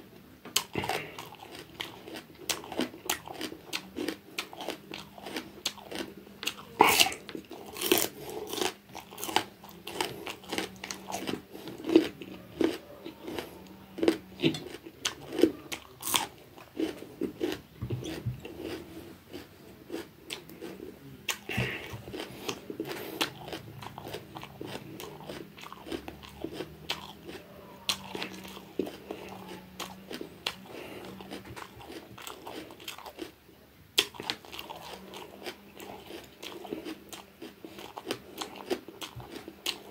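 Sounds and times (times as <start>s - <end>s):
crisp wet chewing crunches: 0.5s - 33.4s, 34.0s - 39.9s.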